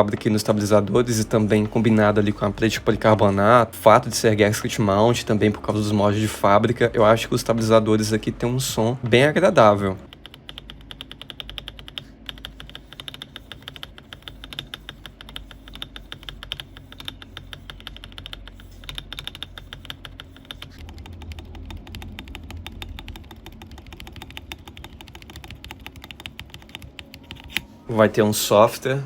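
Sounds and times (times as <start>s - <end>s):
fast typing on keyboard: 0.0s - 27.6s.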